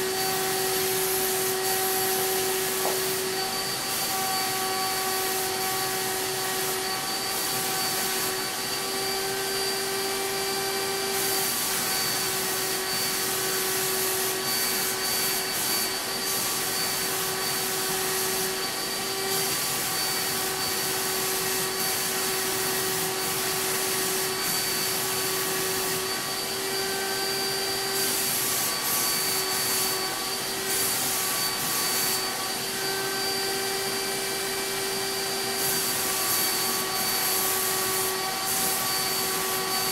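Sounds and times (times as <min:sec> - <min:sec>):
spray gun air hiss: 0:00.0 - 0:39.9
turbine sprayer whine: 0:00.0 - 0:39.9.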